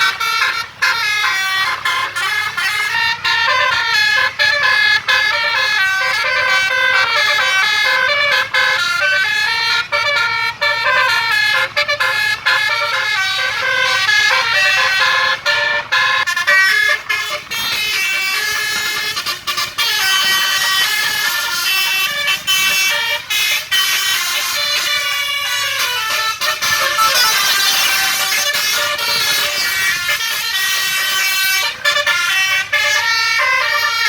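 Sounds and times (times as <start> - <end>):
bus musical horn playing tune: 0.0 - 34.0.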